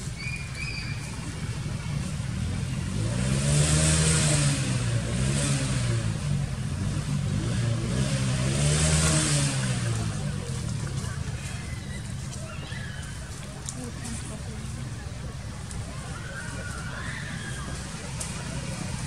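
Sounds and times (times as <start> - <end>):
vehicle engine passing by: 0.0 - 19.0.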